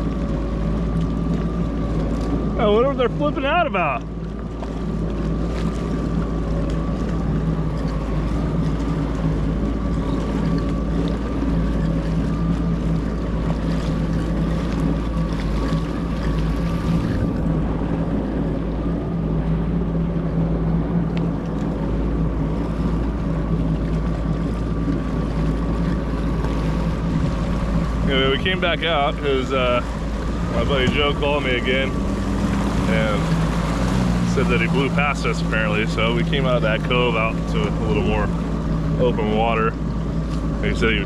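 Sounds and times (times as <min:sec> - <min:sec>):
jet ski engine running: 0:00.0 - 0:41.0.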